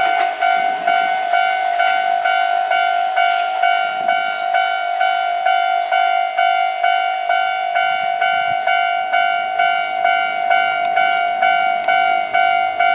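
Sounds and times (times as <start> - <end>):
level crossing warning bell: 0.0 - 12.9.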